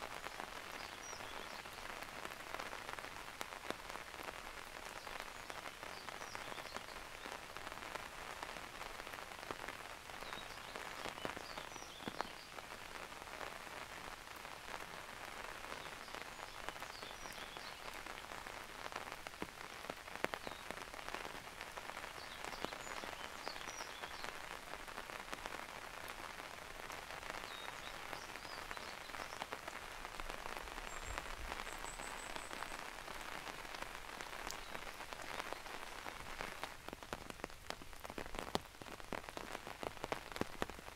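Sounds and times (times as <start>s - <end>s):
rain falling in forest: 0.0s - 40.9s
raindrops ticking: 0.1s - 40.9s.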